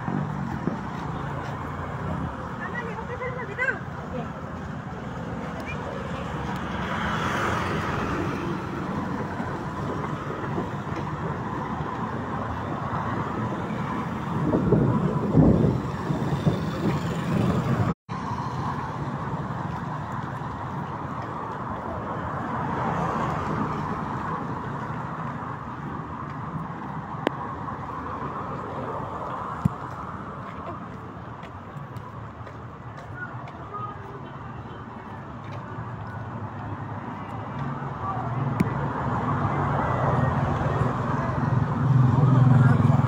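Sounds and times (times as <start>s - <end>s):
traffic on wet street: 0.0s - 43.0s.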